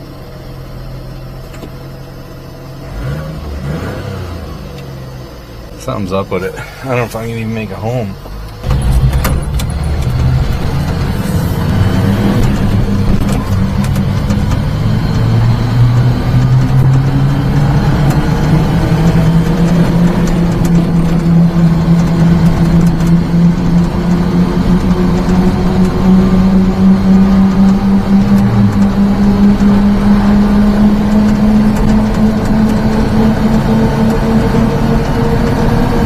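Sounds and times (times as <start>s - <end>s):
truck engine droning: 0.0s - 36.0s.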